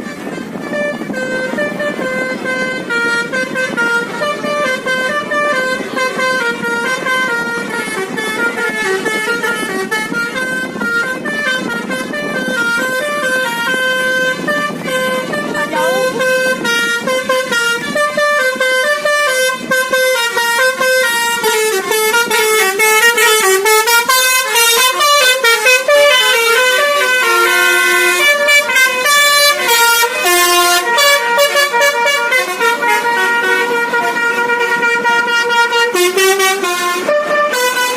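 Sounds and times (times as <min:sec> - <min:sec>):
musical bus air horn tune: 0:00.0 - 0:37.9.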